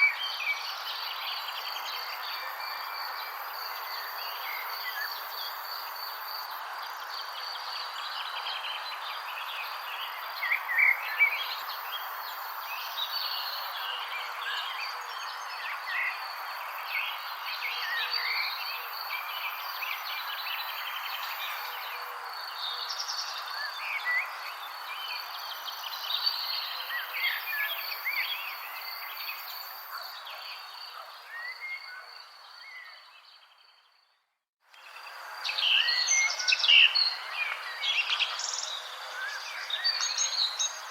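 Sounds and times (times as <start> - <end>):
steady insect hum: 0.0 - 34.1, 34.7 - 40.9.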